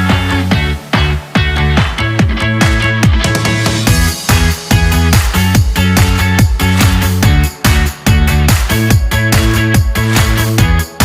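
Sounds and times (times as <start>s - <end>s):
electronic music with thumping beat: 0.0s - 11.0s.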